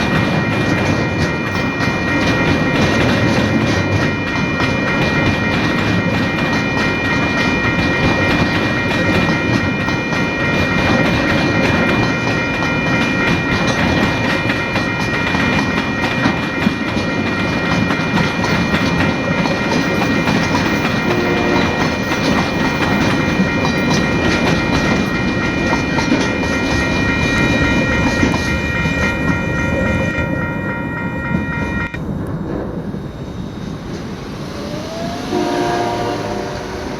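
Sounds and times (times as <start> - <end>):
freight train wagons clattering: 0.0 - 32.7
high steady ringing tones: 0.0 - 36.9.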